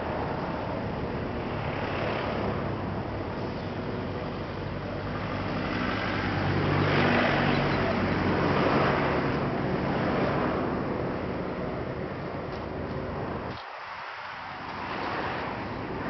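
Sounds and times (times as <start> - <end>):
passing vehicle engine: 0.0 - 16.0.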